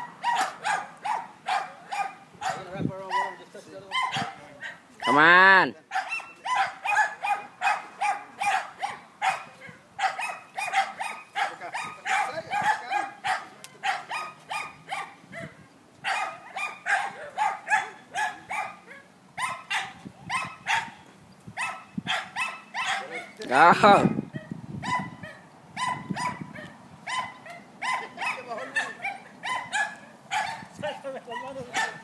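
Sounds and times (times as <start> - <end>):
dog barking: 0.0 - 5.2, 5.9 - 21.0, 21.6 - 23.4, 24.0 - 30.7, 31.3 - 32.0.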